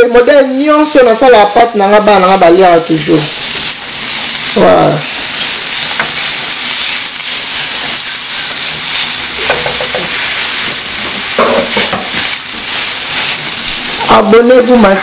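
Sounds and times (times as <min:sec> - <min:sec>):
vegetables sizzling in oil: 0:00.0 - 0:15.0
spatula stirring in pan: 0:01.8 - 0:15.0.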